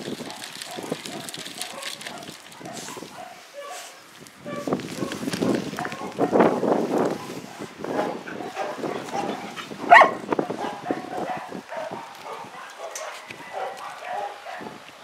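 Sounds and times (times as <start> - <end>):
dog barking loudly: 0.3 - 5.2, 5.8 - 14.8.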